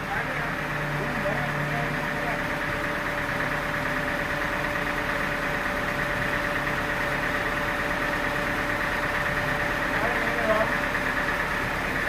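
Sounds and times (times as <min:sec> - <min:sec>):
sawmill machinery humming: 0:00.0 - 0:12.0.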